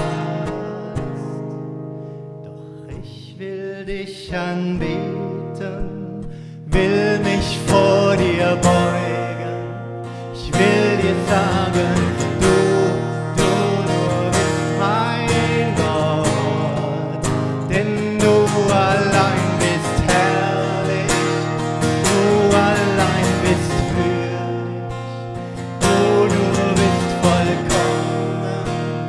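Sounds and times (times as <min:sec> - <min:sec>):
acoustic guitar strumming: 0:00.0 - 0:29.0
person singing: 0:02.9 - 0:29.0.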